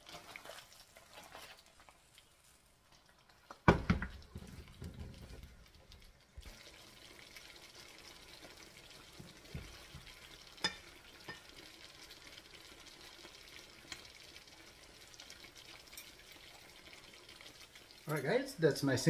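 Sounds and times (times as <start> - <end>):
sauce simmering and sizzling: 0.0 - 19.0.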